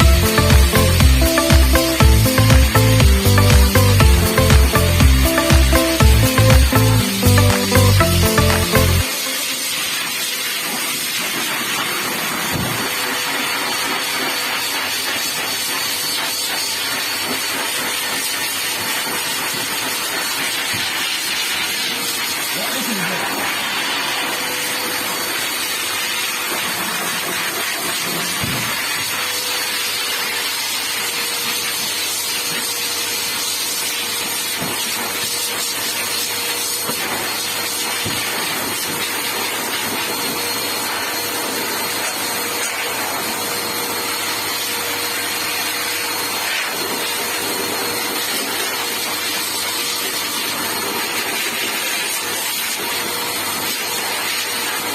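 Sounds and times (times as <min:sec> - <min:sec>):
electric blower running: 0:00.0 - 0:22.5, 0:23.2 - 0:54.9.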